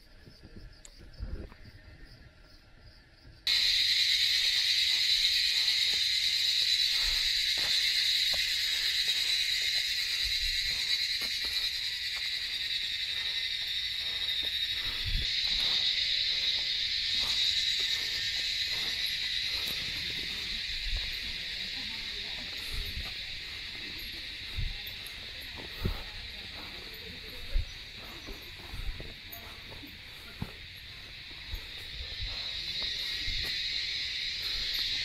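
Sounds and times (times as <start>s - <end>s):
shrill chorus of insects: 0.0s - 35.0s.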